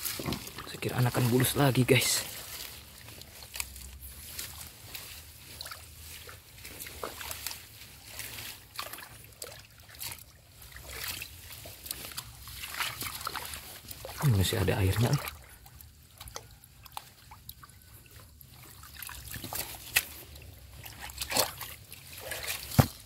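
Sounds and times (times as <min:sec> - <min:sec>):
muddy water sloshing and splashing: 0:00.0 - 0:23.0
water trickling: 0:00.0 - 0:23.0.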